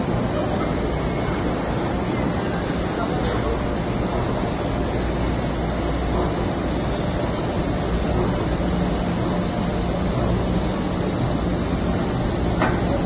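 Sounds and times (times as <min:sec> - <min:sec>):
coating machine running: 0:00.0 - 0:13.0.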